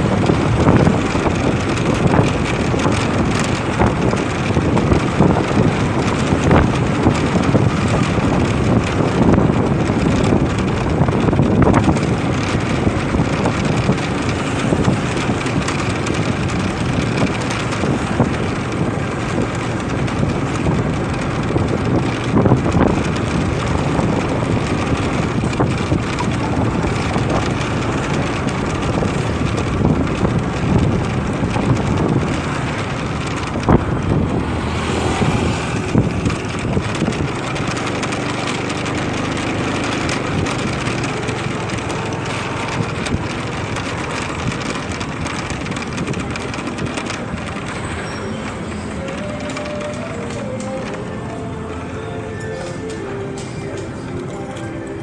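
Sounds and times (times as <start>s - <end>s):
wind buffeting microphone: 0.0s - 50.9s
motorcycle engine: 0.0s - 55.0s.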